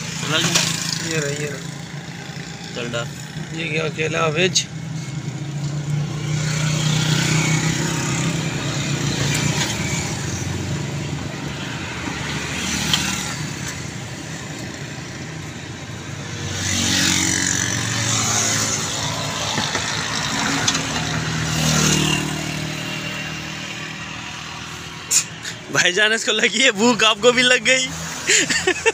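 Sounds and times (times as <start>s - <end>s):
vehicle engines running: 0.0s - 28.9s.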